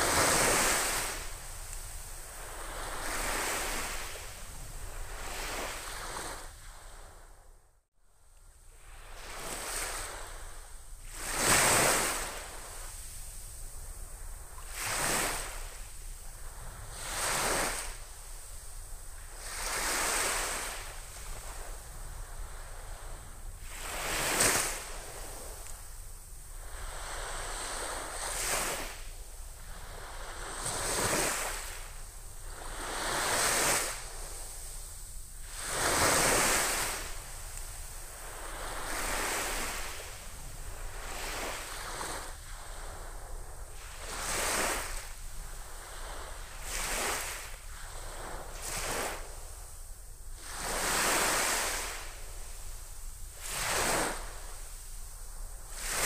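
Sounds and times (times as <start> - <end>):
gentle waves on sandy beach: 0.0 - 7.4, 8.7 - 56.0.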